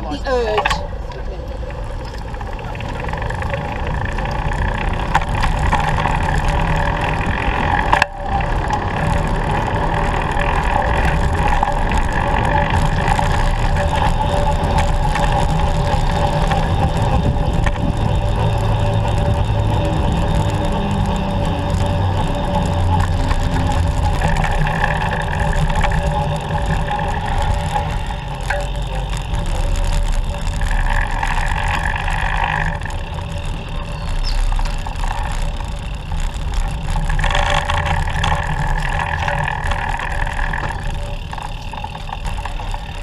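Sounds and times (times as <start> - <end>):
road and traffic rumble: 0.0 - 43.0.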